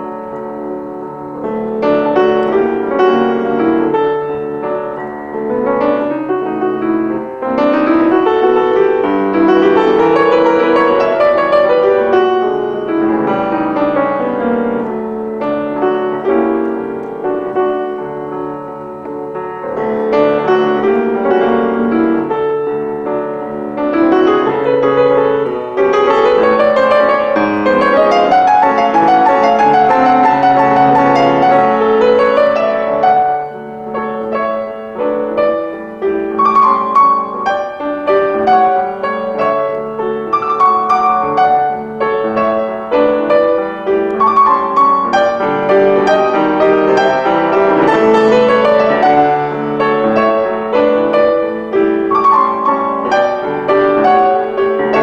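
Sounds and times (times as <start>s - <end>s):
solo piano piece: 0.0s - 55.0s.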